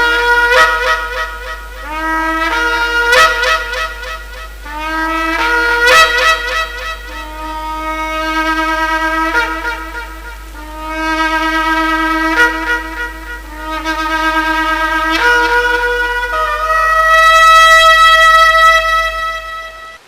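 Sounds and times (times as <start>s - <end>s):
ram's horn blasts: 0.0s - 20.0s.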